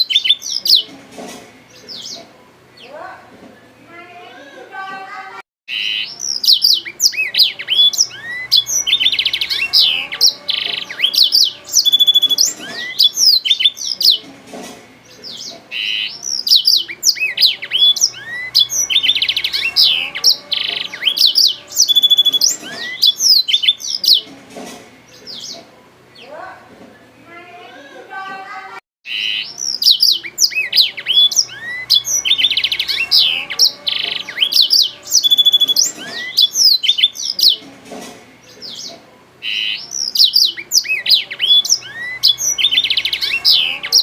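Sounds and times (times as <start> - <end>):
canary singing: 0.0 - 28.2, 29.0 - 44.0.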